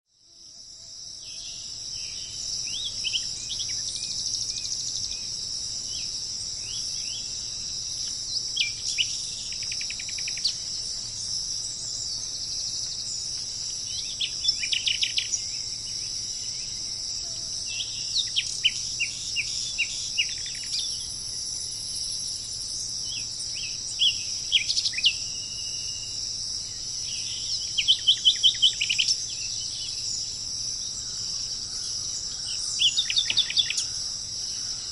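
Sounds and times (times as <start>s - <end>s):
insect chorus: 0.1s - 34.9s
songbird chirping: 0.4s - 34.9s.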